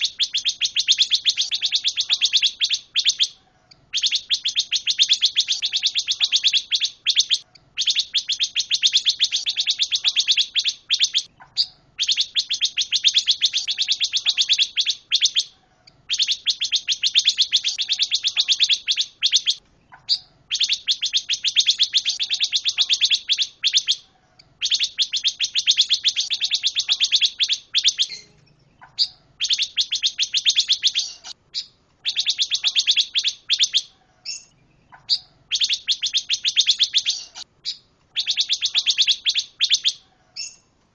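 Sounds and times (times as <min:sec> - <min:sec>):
songbird chattering trills: 0:00.0 - 0:40.6.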